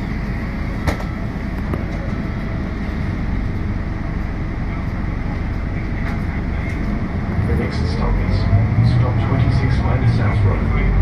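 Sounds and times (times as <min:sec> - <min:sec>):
bus rumble from inside: 0:00.0 - 0:11.0.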